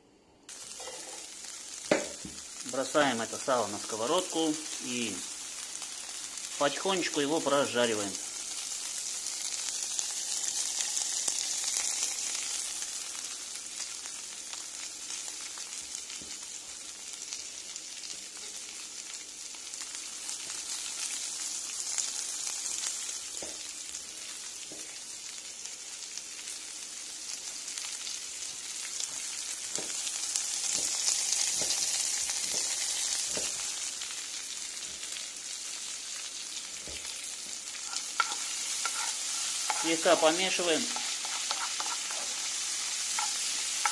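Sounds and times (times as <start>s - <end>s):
pork fat sizzling in a frying pan: 0.5s - 43.9s.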